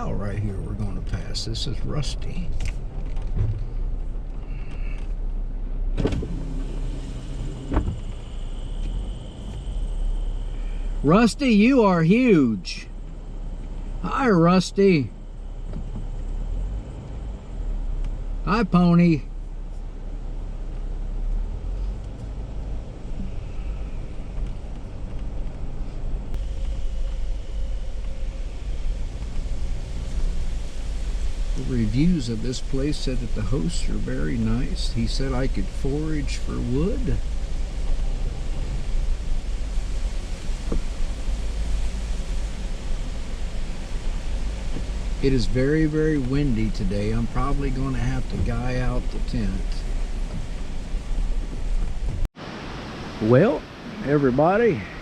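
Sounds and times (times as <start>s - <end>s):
vehicle driving slowly: 0.0s - 55.0s.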